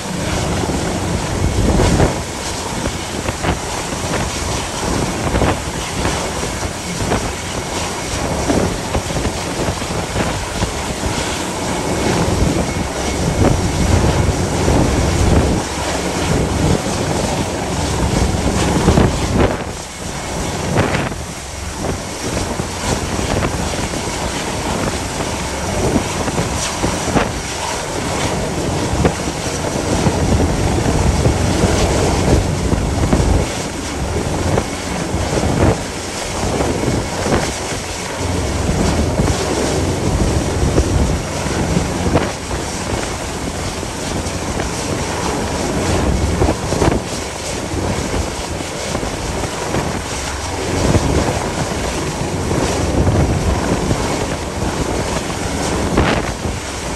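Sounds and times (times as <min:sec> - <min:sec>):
sea rushing: 0:00.0 - 0:56.9
wind buffeting microphone: 0:00.0 - 0:56.9.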